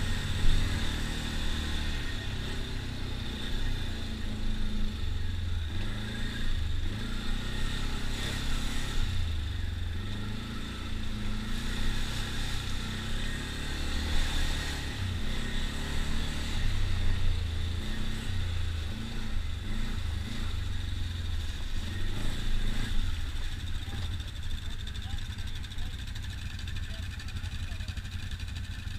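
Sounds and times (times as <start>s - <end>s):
quad bike engine revving: 0.0s - 28.9s.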